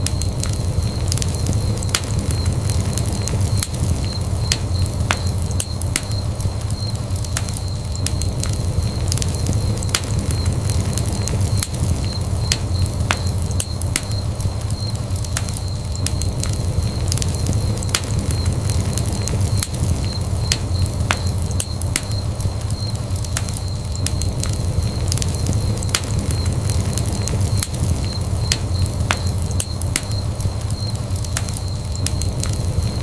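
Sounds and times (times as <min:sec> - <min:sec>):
faint steady high tone: 0:00.0 - 0:33.0
wood fire crackling: 0:00.0 - 0:33.0.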